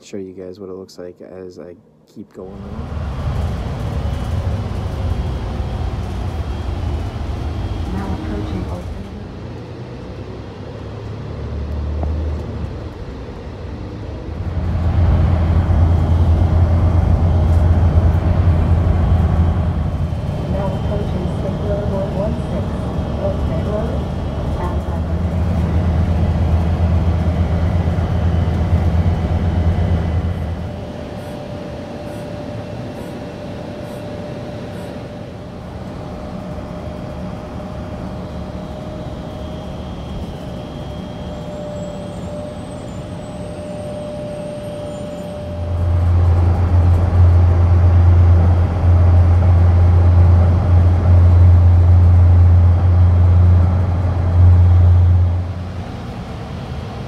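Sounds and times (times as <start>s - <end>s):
car road and engine rumble: 2.4s - 57.0s.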